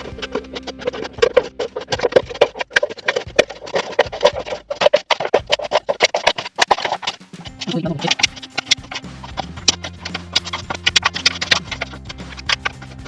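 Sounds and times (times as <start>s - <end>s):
music with wood-block beats: 0.0s - 13.0s.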